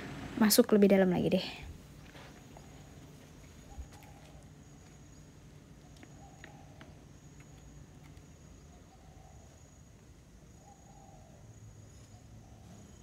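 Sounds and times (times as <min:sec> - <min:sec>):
faint distant calls: 0:00.0 - 0:13.0
high insect whine: 0:01.7 - 0:13.0.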